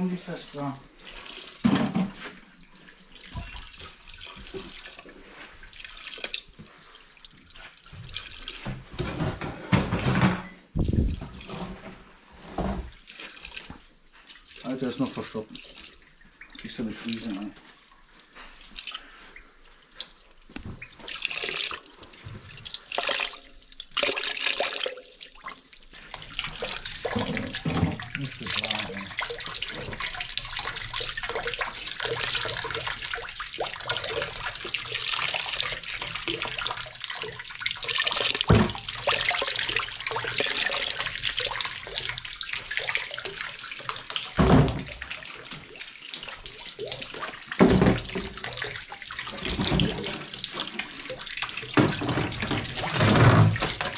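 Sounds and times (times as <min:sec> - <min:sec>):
water splashing into plastic tub: 0:00.0 - 0:53.9.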